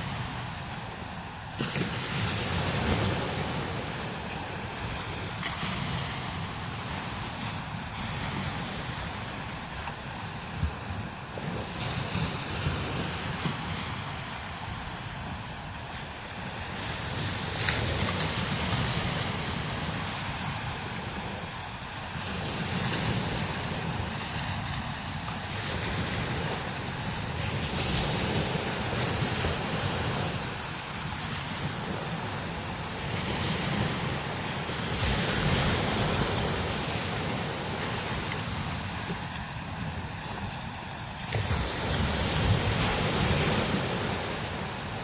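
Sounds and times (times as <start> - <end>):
strong gusting wind: 0.0 - 45.0
wind buffeting microphone: 0.0 - 45.0.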